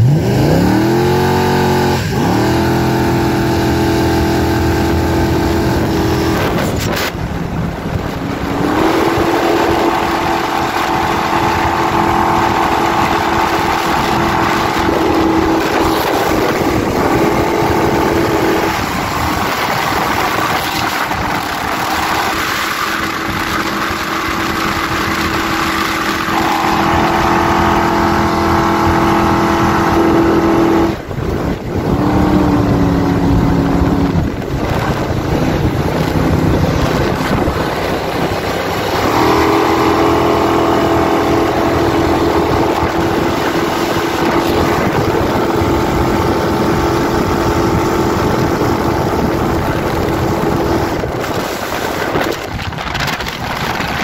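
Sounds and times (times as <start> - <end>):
boat engine at full throttle: 0.0 - 54.0.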